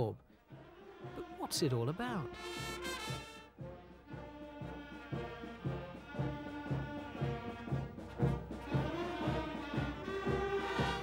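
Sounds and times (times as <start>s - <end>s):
street band playing a march: 0.0s - 11.0s.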